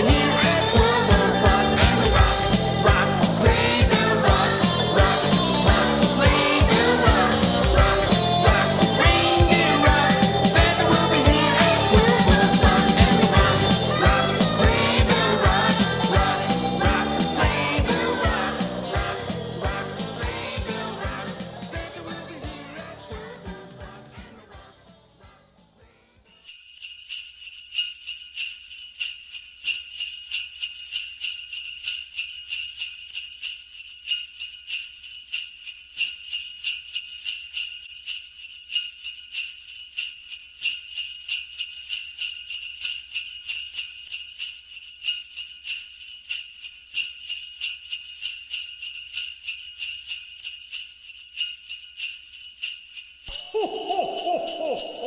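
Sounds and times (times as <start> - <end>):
sleigh bells jingling: 0.0 - 55.0.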